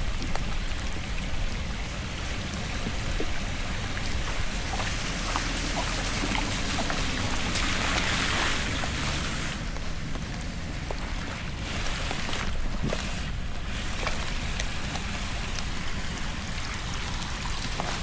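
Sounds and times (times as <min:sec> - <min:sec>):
rushing hiss of water: 0:00.0 - 0:09.7, 0:11.6 - 0:18.0
small splashes: 0:00.0 - 0:09.7, 0:11.6 - 0:18.0
water running and splashing: 0:00.0 - 0:09.8, 0:11.1 - 0:18.0.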